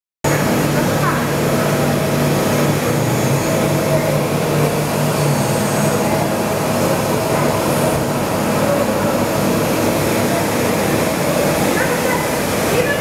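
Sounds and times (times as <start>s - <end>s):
machine hum: 0.3s - 13.0s.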